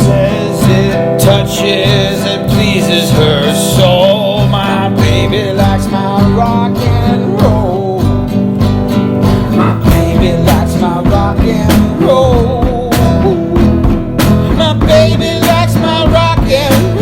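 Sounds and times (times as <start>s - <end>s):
country-rock music: 0.0s - 17.0s.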